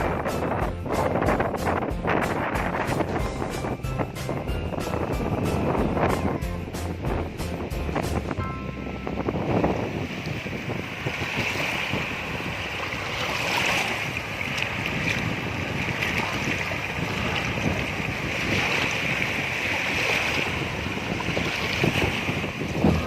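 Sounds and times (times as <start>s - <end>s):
waves washing onto shore: 0.0s - 23.0s
wind buffeting microphone: 0.0s - 23.0s.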